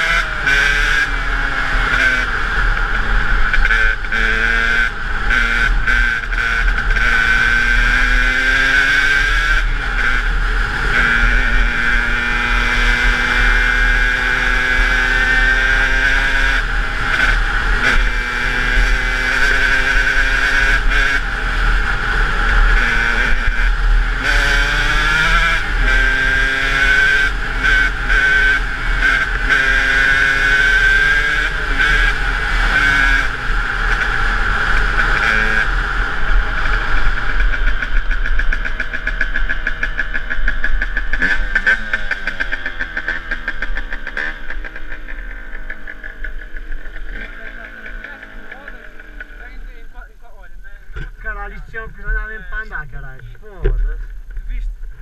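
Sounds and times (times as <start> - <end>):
two-stroke engine revving through gears: 0.0 - 49.8.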